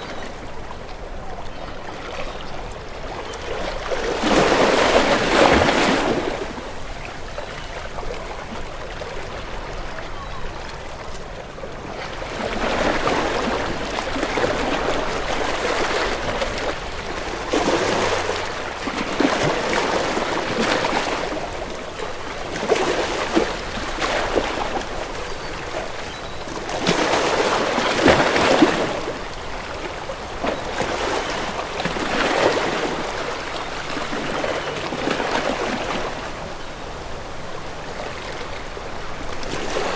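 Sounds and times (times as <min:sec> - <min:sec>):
sea waves washing and sloshing: 0:00.0 - 0:39.9.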